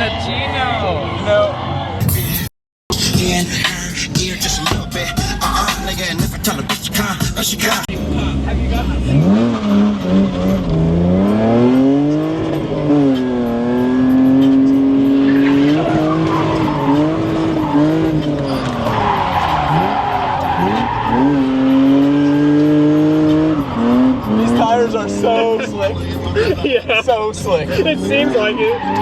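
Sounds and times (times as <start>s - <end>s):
car engine revving: 2.3s - 29.0s
tires squealing: 3.3s - 29.0s.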